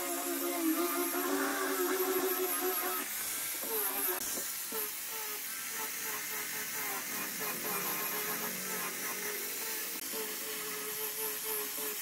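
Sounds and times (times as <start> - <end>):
disc sander on wood: 0.0 - 12.0.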